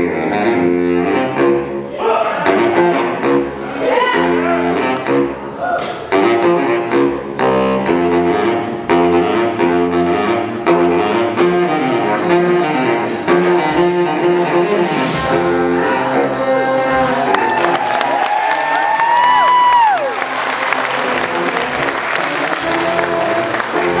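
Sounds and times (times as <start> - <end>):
jazz big band playing: 0.0 - 24.0.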